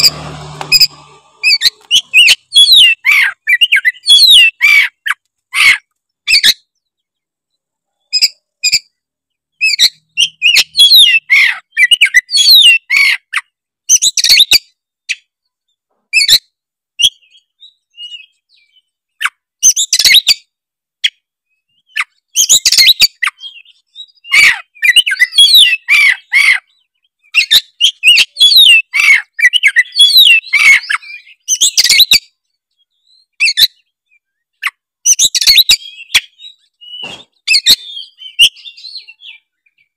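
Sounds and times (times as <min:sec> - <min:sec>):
bird singing whistles and chatters: 0:00.8 - 0:07.0, 0:08.1 - 0:15.2, 0:16.2 - 0:20.5, 0:21.1 - 0:39.9.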